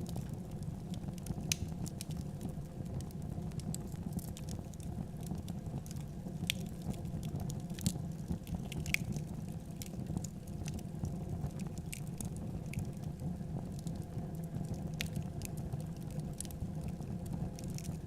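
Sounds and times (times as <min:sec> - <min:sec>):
fire crackling: 0:00.0 - 0:18.0
low rumble of flames: 0:00.0 - 0:18.0.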